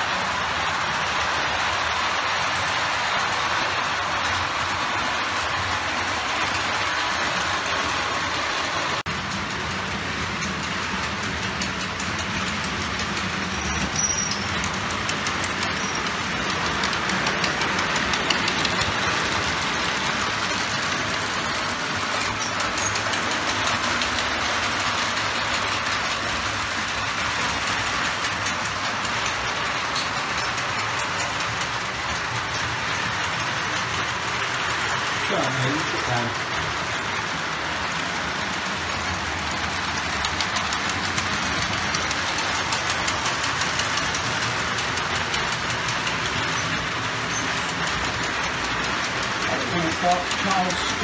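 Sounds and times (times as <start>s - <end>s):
model train wheels rattling on track: 0.0s - 51.0s.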